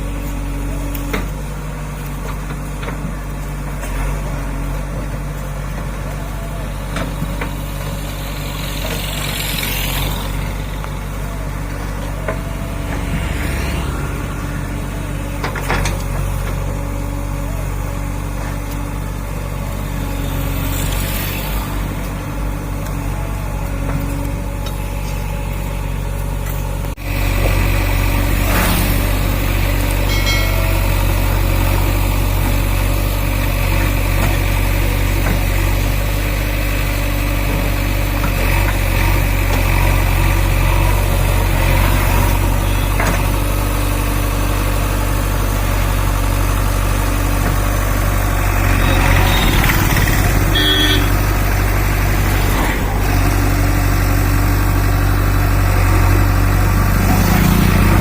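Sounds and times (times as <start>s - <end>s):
backhoe diesel engine running: 0.0s - 58.0s.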